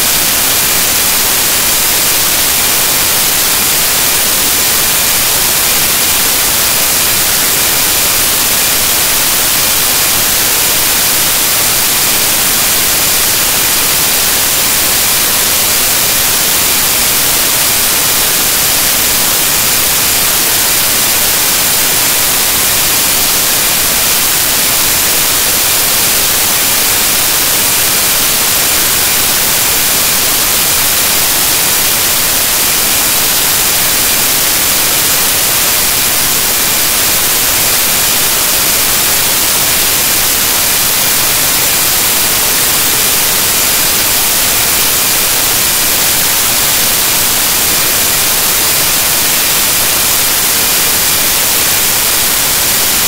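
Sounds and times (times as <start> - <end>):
static hiss: 0.0 - 53.0.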